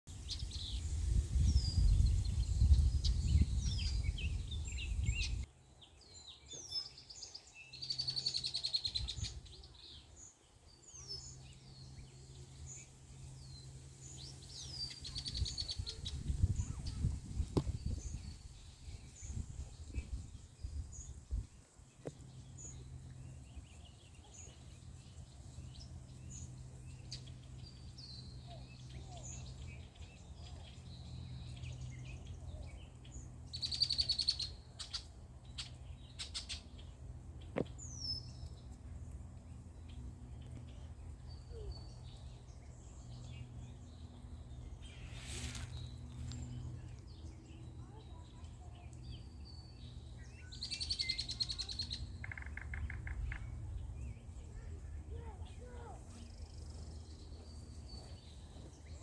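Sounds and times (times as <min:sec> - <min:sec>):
birds chirping: 0:00.1 - 0:59.0.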